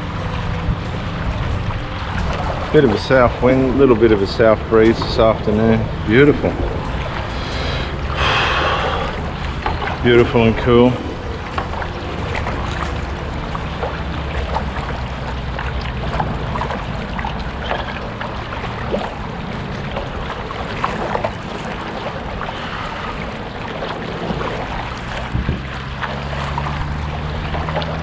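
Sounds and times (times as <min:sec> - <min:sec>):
boat motor running: 0:00.0 - 0:28.0
water splashing: 0:00.0 - 0:28.0
wind noise: 0:00.0 - 0:28.0.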